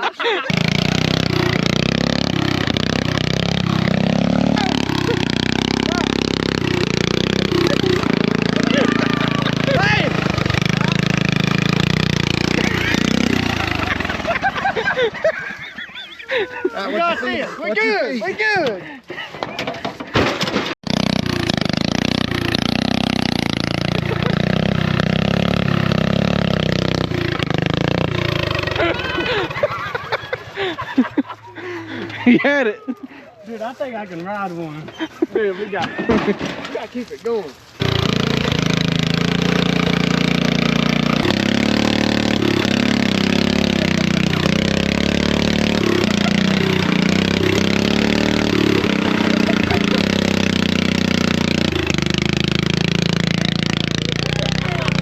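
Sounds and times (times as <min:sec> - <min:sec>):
small engine running: 0:00.5 - 0:16.4, 0:20.8 - 0:32.2, 0:37.8 - 0:55.0.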